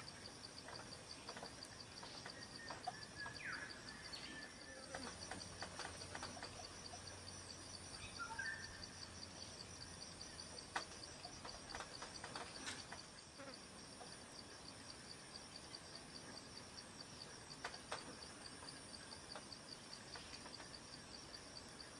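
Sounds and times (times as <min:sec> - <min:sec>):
pulsing insect drone: 0:00.0 - 0:21.9.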